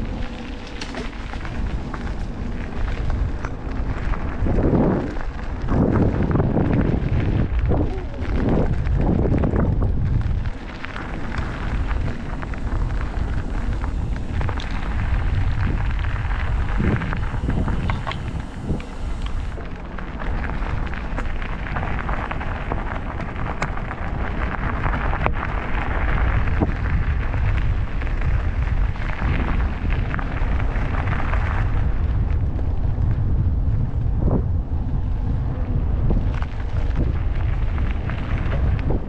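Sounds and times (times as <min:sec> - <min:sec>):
rushing air and tyre noise: 0:00.0 - 0:39.0
wind buffeting microphone: 0:00.0 - 0:39.0.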